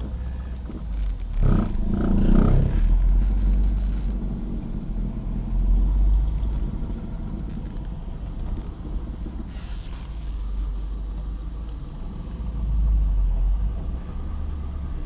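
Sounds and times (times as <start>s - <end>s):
engine idling roughly: 0.0s - 15.0s.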